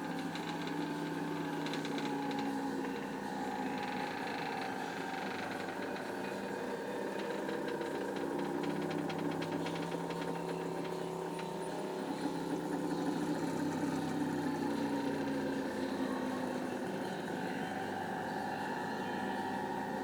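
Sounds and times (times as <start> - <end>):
machine motors whining: 0.0 - 20.0.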